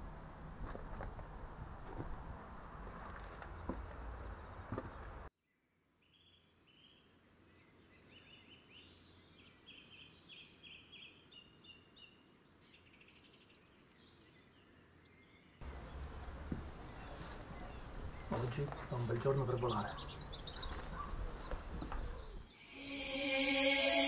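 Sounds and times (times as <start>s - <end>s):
songbirds chirping and trilling: 3.1s - 22.7s.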